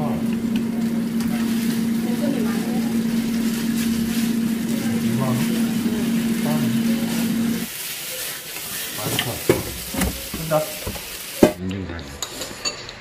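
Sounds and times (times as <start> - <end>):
eel sizzling in a pan: 0.0 - 11.6.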